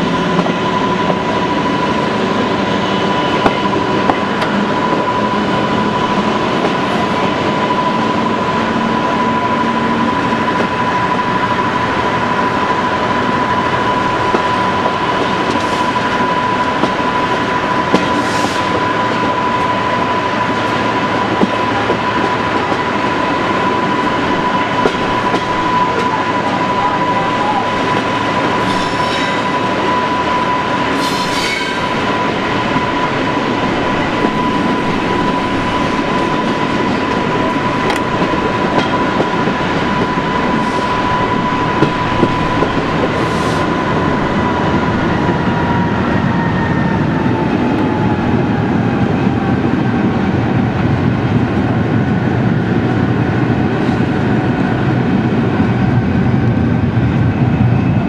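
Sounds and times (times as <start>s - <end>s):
train rumble and rail noise: 0.0s - 58.0s.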